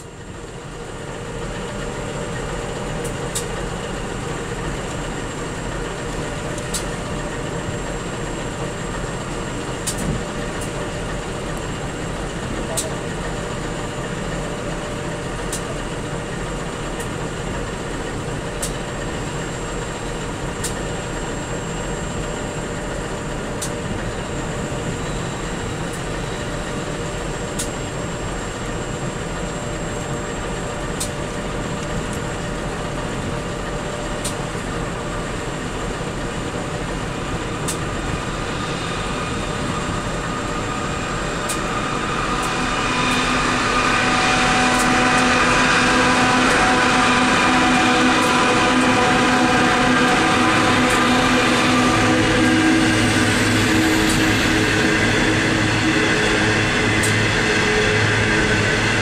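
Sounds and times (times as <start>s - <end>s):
diesel locomotive engines: 0.0s - 59.0s.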